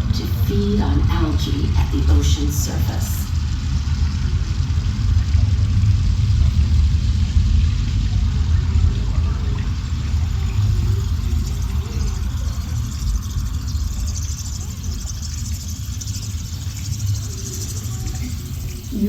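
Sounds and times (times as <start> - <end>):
faint high noise: 0.0 - 19.0
steady low rumble: 0.0 - 19.0.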